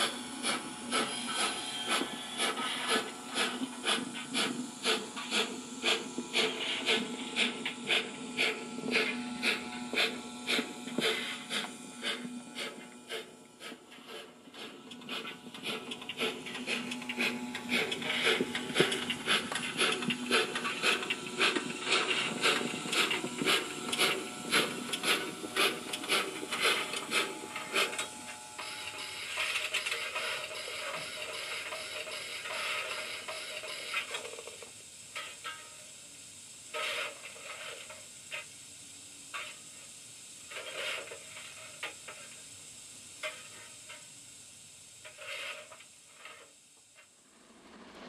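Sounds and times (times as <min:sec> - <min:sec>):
steam hiss: 0:00.0 - 0:48.0
steam locomotive chuffs: 0:00.0 - 0:48.0.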